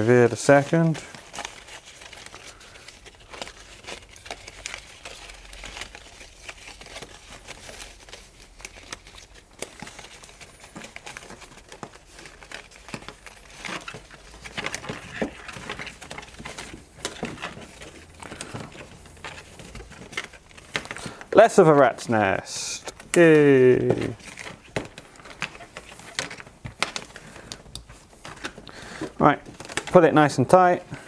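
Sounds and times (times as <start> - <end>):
bark strips crackling and rustling: 0.0 - 30.8.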